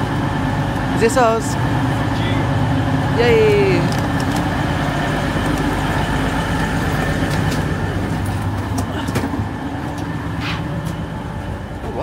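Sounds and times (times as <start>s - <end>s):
train engines idling: 0.0s - 12.0s.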